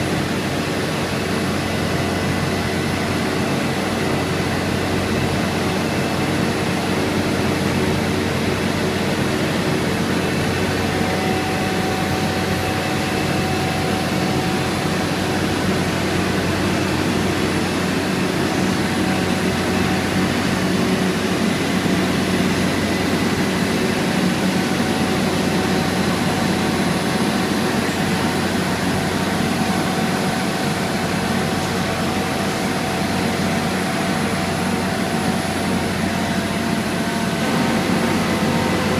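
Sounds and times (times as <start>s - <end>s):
heavy diesel engine droning: 0.0s - 38.9s.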